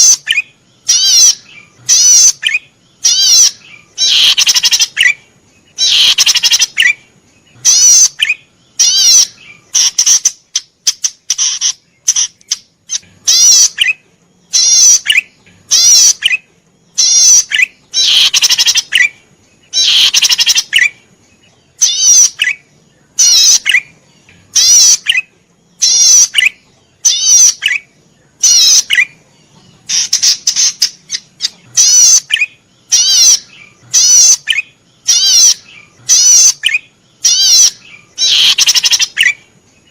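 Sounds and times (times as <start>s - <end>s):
small bird trilling song: 0.0s - 39.9s.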